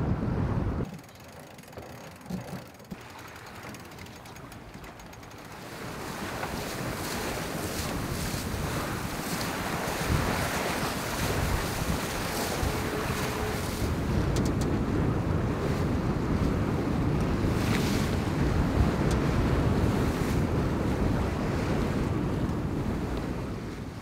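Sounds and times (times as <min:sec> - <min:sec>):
water rushing along hull: 0:00.0 - 0:24.0
wind buffeting microphone: 0:03.8 - 0:24.0.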